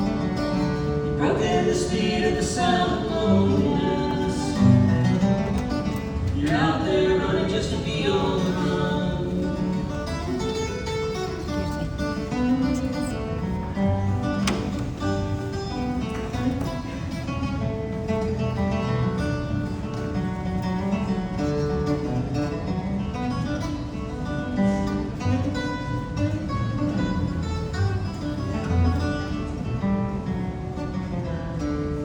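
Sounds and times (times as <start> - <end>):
acoustic guitar playing: 0.0 - 32.0.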